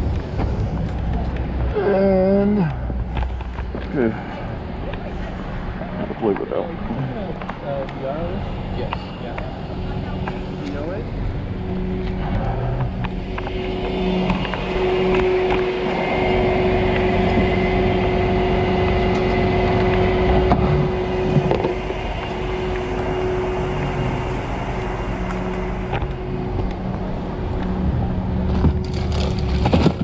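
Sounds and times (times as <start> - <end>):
truck engine rumbling with whine: 0.0 - 30.0.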